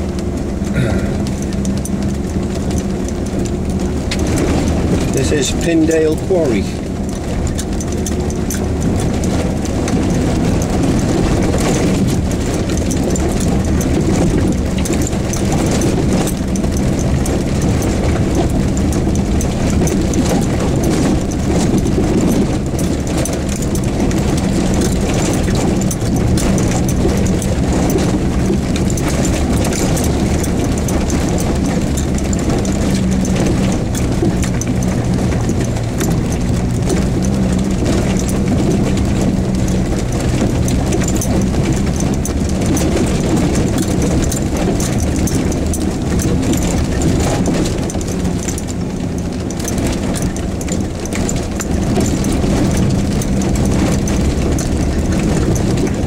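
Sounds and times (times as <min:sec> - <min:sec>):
car engine running: 0:00.0 - 0:56.0
vehicle rattling and knocking: 0:00.0 - 0:56.0.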